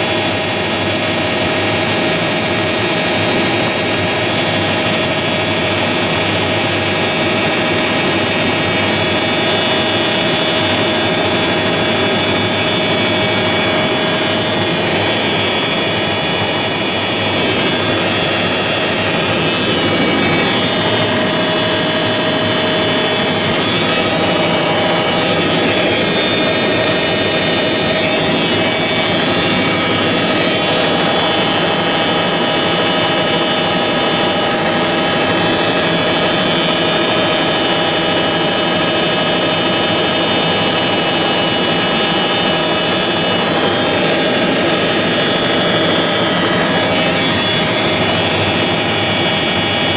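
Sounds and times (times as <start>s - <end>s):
helicopter drone from cabin: 0.0s - 49.9s.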